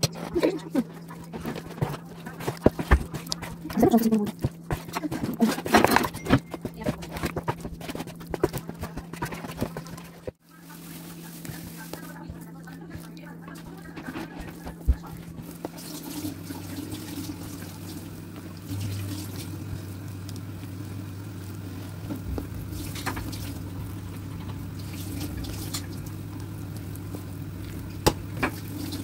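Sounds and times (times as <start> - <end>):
dough squishing and slapping: 0.0 - 29.0
steady low hum: 0.0 - 29.0.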